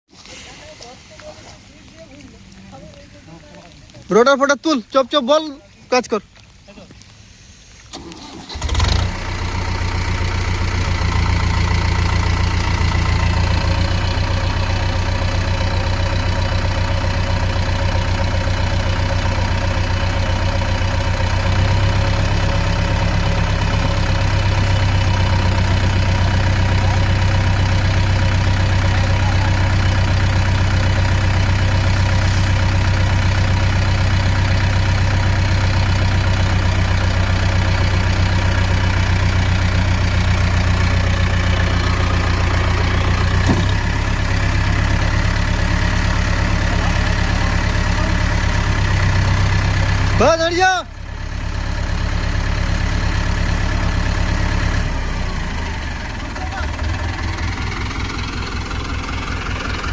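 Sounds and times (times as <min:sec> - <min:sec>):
tractor diesel engine running: 0:07.7 - 0:59.9.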